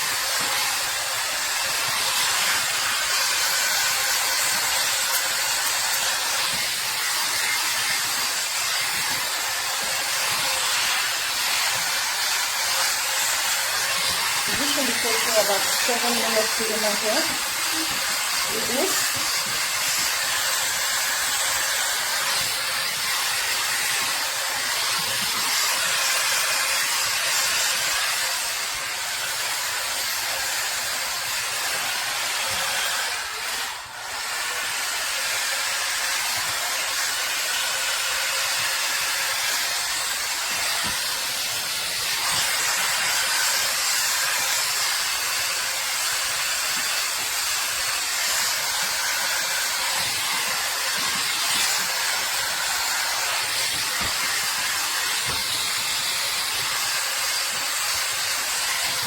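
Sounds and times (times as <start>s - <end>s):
hot air brush blowing: 0.0s - 59.0s.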